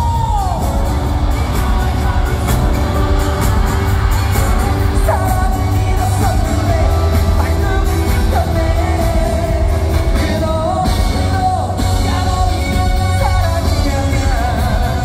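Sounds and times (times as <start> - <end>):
band with heavy bass: 0.0 - 15.0
male singer holding long notes: 0.0 - 15.0.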